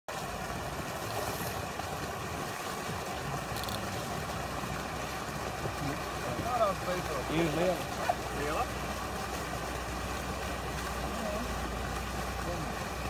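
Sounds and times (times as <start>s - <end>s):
water pouring into a pond: 0.1s - 13.0s.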